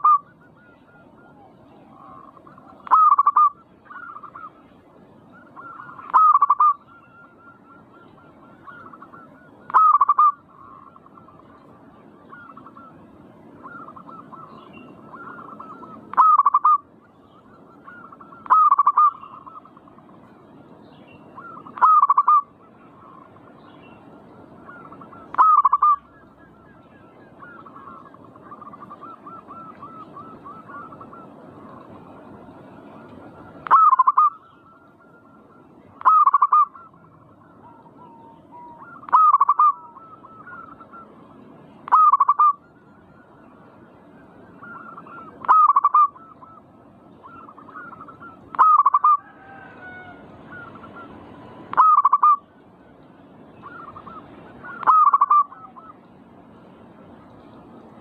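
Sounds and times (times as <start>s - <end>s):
faint cooing of other doves: 0.0s - 58.0s.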